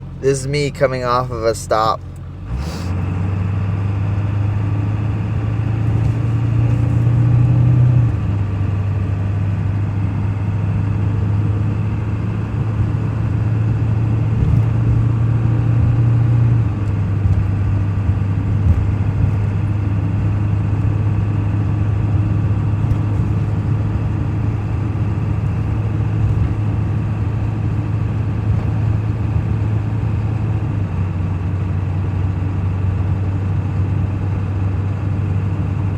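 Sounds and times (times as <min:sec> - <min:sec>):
truck engine accelerating: 0:00.0 - 0:35.9.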